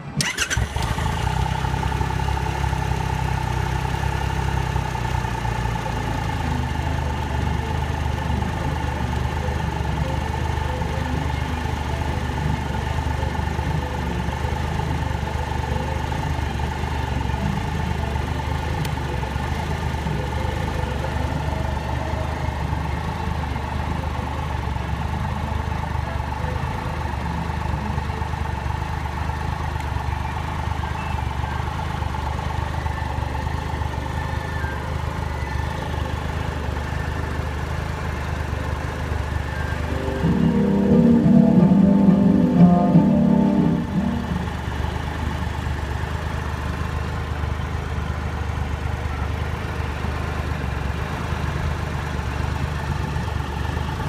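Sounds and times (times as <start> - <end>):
motorcycle engine starting and idling: 0.0 - 54.0.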